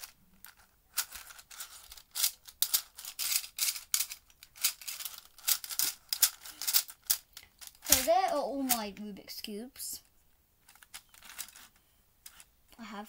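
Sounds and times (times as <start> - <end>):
plastic pieces clicking: 0.0 - 8.9, 10.6 - 12.5.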